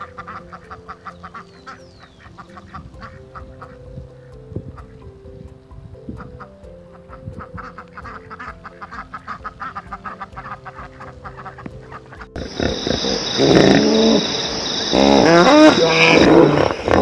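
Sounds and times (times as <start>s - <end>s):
duck quacking: 0.0s - 3.8s, 7.1s - 17.0s
steady high hiss: 0.0s - 17.0s.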